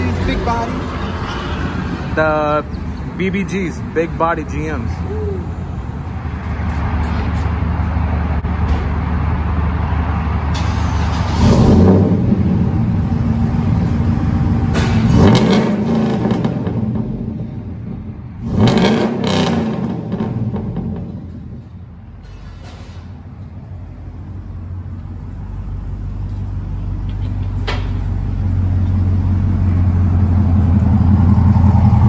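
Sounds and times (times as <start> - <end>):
pickup engine idling and revving: 4.9 - 21.9, 23.2 - 32.0.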